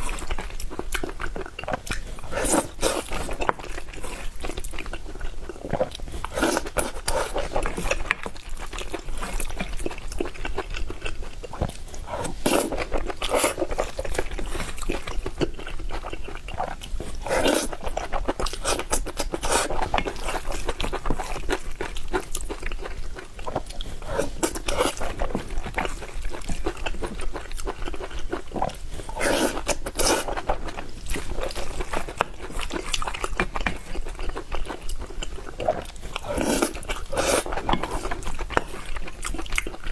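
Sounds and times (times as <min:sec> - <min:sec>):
person chewing and biting food: 0:00.0 - 0:39.9.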